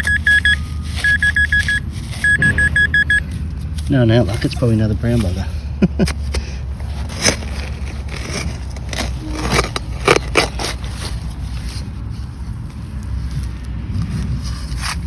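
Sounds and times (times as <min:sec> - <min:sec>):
digging tool scraping dirt: 0:00.0 - 0:15.0
steady low rumble: 0:00.0 - 0:15.0.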